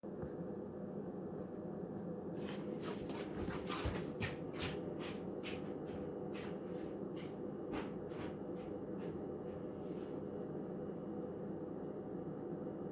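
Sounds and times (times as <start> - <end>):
electric furnace humming: 0.0 - 12.9.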